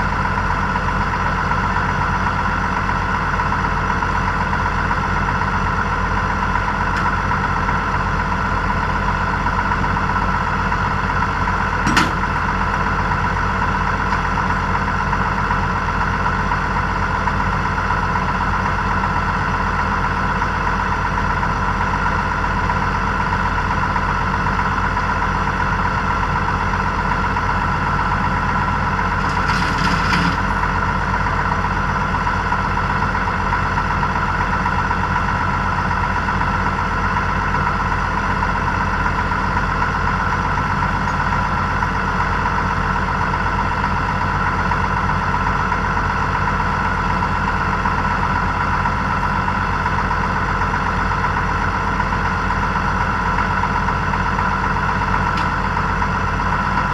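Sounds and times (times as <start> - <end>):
tractor diesel engine idling: 0.0 - 56.9.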